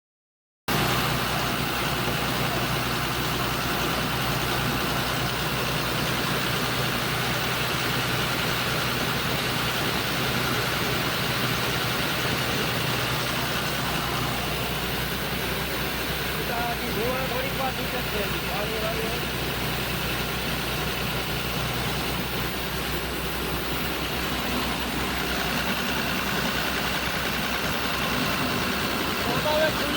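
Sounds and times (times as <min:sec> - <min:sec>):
air compressor engine running: 0:00.7 - 0:29.9.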